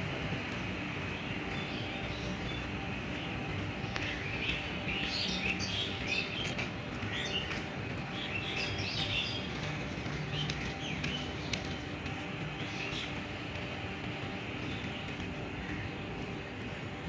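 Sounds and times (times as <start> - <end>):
small birds chirping and twittering: 0.0 - 17.0
steady background noise: 0.0 - 17.0.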